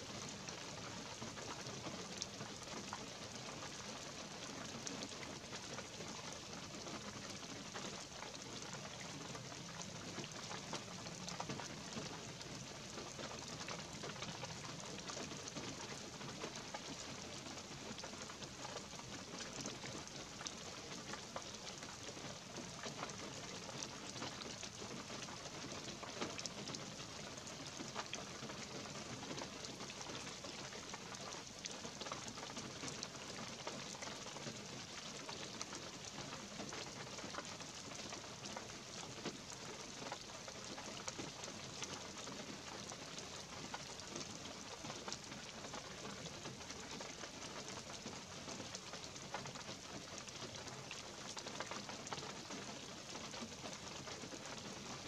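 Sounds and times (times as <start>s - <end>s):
light rain on pine trees: 0.0s - 55.0s.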